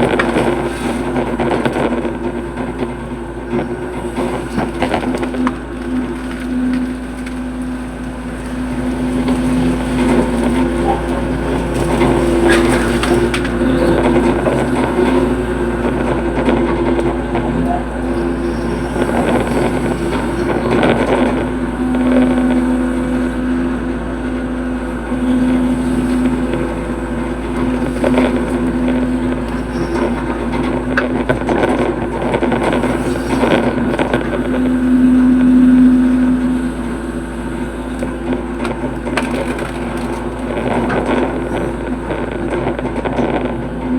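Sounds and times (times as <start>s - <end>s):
excavator engine and hydraulic drone: 0.0s - 43.9s.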